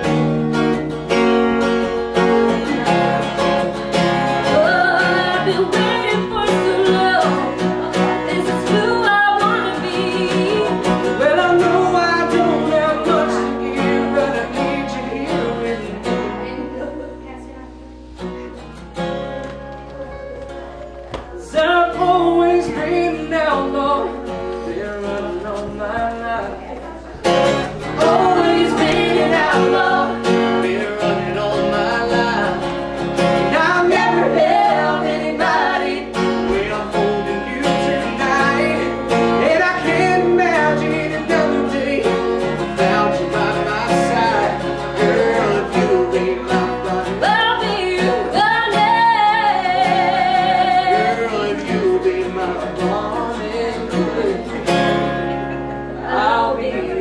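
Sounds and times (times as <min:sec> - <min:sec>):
man and woman singing: 0:00.0 - 0:17.4, 0:19.8 - 0:55.3, 0:55.9 - 0:57.0
acoustic guitar strumming: 0:00.0 - 0:57.0.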